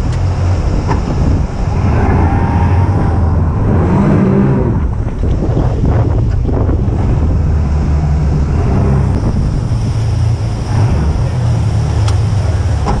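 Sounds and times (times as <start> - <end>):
boat engine rumble: 0.0 - 13.0
rushing water: 0.0 - 13.0
wind buffeting microphone: 0.0 - 13.0.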